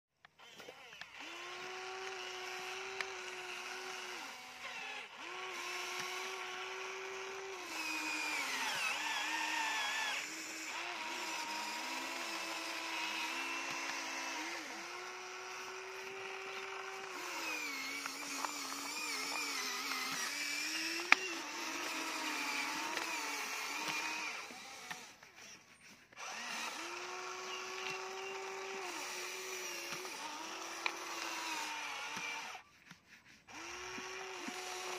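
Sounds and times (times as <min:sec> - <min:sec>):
toy electric motors whining: 0:00.2 - 0:34.9.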